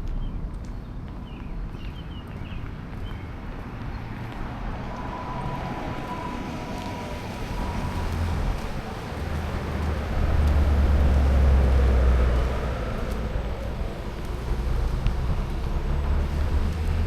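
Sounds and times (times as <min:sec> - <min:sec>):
vehicle rumbling by: 0:03.0 - 0:17.0.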